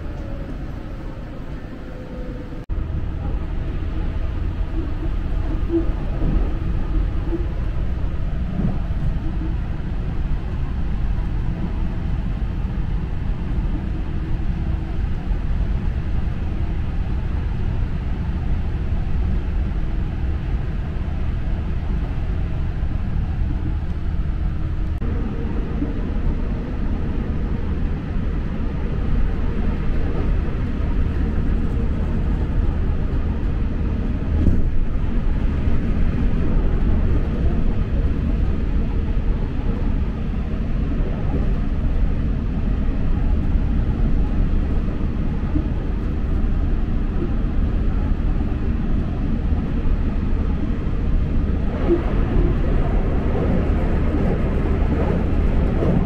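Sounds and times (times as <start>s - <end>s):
steady hum: 0.0s - 56.0s
train wheels rumbling on rail: 0.0s - 56.0s.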